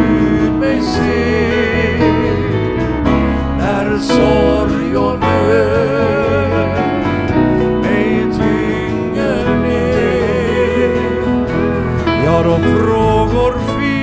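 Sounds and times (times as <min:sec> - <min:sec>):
acoustic guitar: 0:00.0 - 0:14.0
bass: 0:00.0 - 0:14.0
men singing: 0:00.0 - 0:14.0
piano: 0:00.0 - 0:14.0
steel guitar: 0:00.0 - 0:14.0.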